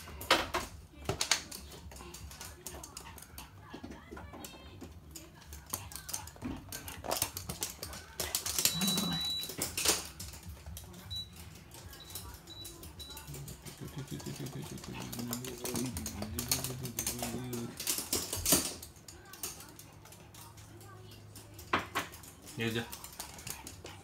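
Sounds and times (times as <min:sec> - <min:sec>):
dog claws clicking on hard floor: 0:00.0 - 0:24.0.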